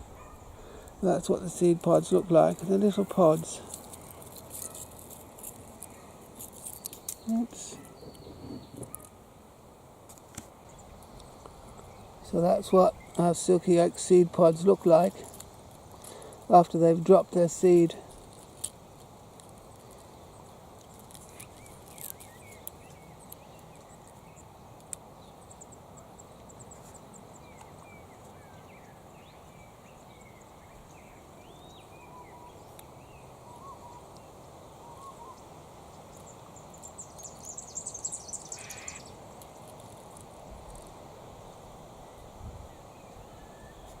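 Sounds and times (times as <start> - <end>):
birds chirping: 0.0 - 9.2, 10.6 - 18.0, 19.8 - 39.4
faint background hiss: 0.0 - 44.0.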